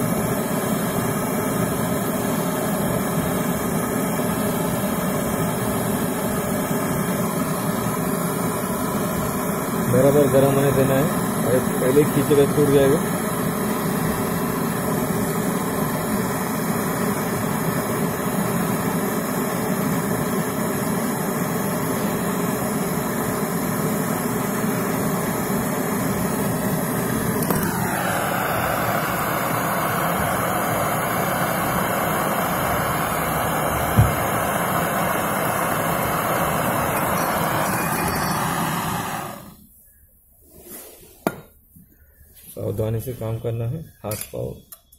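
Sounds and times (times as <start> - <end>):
gas torch burning: 0.0 - 39.8.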